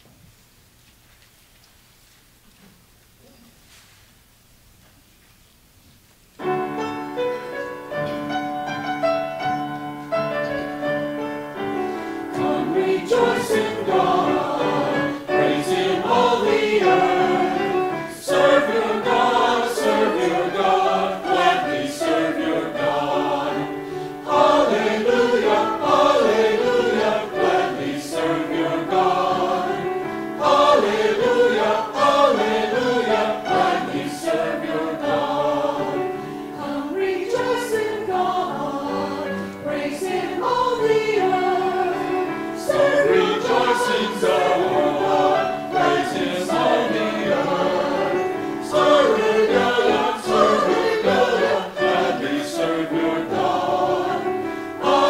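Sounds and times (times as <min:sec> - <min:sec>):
church choir singing: 0:06.4 - 0:55.0
instrumental accompaniment: 0:06.4 - 0:55.0.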